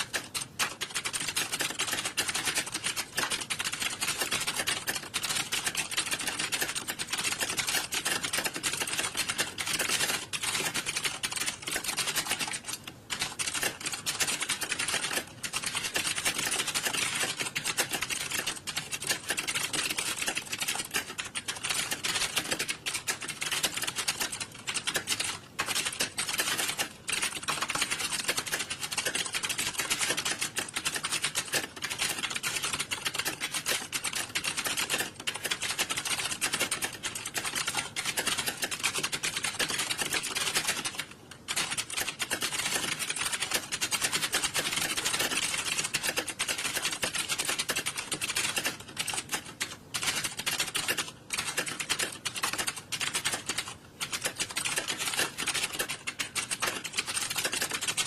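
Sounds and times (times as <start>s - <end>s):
keyboards typing clatter: 0.0s - 58.0s.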